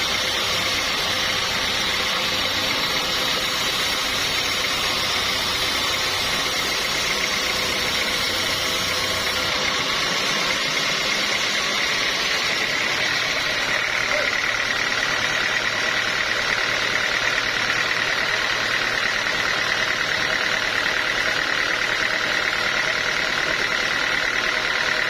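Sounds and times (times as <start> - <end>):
constant high tone: 0.0 - 20.3
sawmill machinery humming: 0.0 - 25.0.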